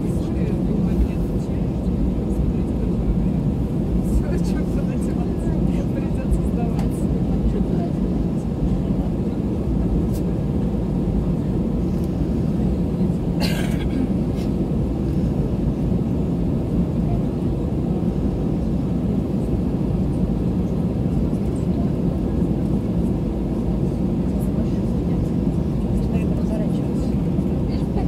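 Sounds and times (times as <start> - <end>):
low rumble in airplane cabin: 0.0 - 28.0.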